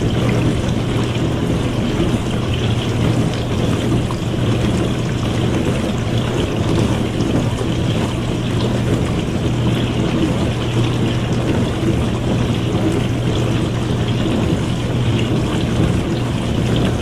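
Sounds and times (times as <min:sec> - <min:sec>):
dishwasher pump hum: 0:00.0 - 0:17.0
water rushing: 0:00.0 - 0:17.0.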